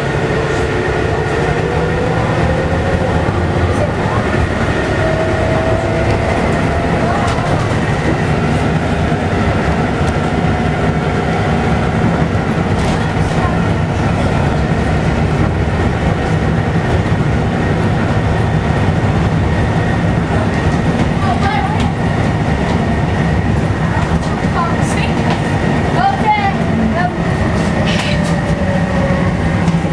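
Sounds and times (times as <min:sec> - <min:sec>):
bus diesel engine running: 0:00.0 - 0:29.9.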